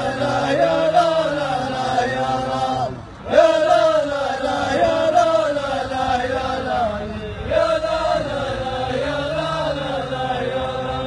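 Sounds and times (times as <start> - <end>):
male voices chanting: 0.0 - 11.0.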